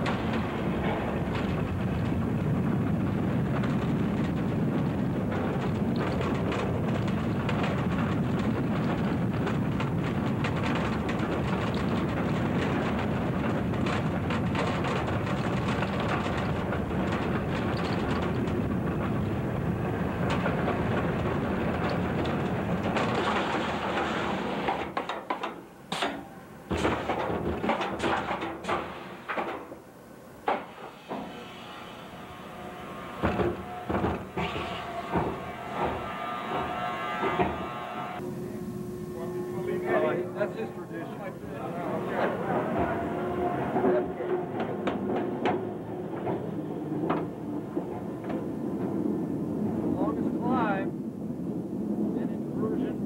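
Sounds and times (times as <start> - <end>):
roller coaster rumbling on track: 0.0 - 53.0.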